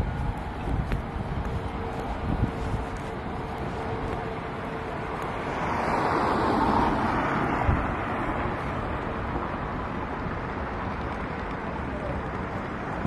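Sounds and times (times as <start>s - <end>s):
vehicle passing: 0.0s - 13.0s
wind on microphone: 0.0s - 13.0s.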